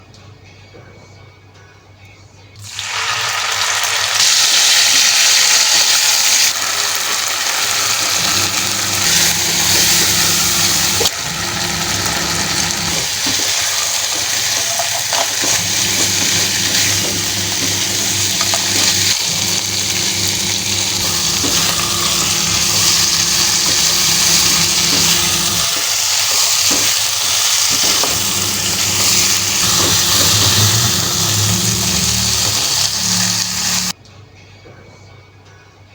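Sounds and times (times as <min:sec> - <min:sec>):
food frying in hot oil: 0:02.6 - 0:34.0.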